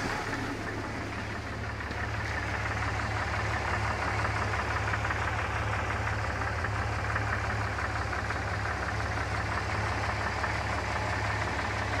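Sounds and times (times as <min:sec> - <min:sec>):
vehicle engine idling with pulsing: 0:00.0 - 0:12.0.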